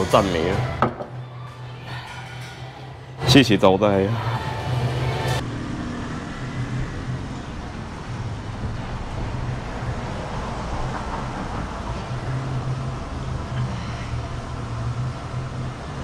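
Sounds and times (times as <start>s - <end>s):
passing traffic rumble: 0.0s - 16.0s.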